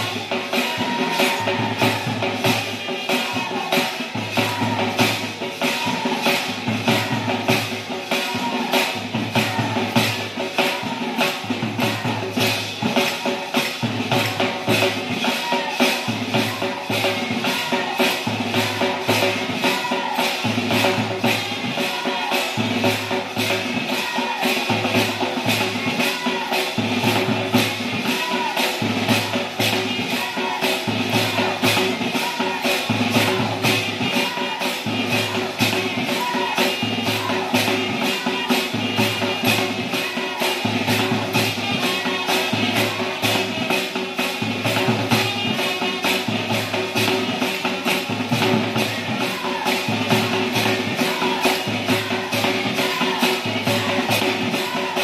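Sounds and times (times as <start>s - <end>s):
jingling hand percussion: 0.0s - 55.0s
pulsing drum: 0.0s - 55.0s.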